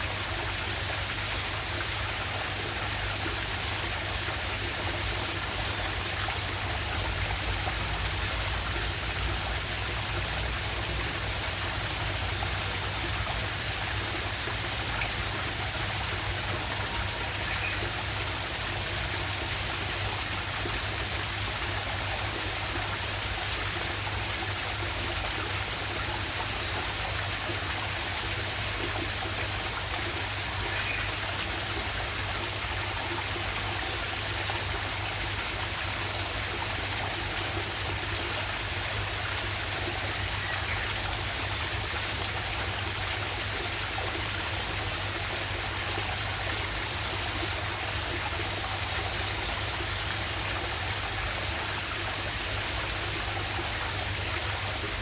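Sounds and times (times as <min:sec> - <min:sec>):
stream water over small waterfall: 0:00.0 - 0:55.0.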